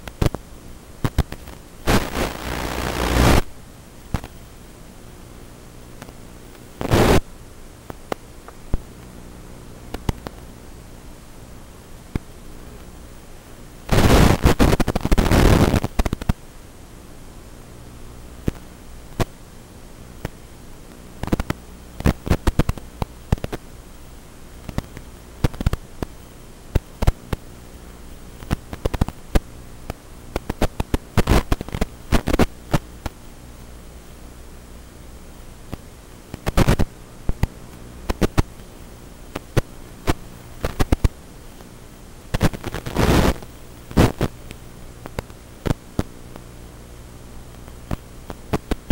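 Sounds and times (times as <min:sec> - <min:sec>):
crackling clicks and pops: 0:00.0 - 0:04.7, 0:05.6 - 0:10.8, 0:11.9 - 0:13.2, 0:13.8 - 0:16.5, 0:18.4 - 0:19.4, 0:20.0 - 0:33.2, 0:35.6 - 0:48.9
static hiss and hum: 0:00.0 - 0:48.9.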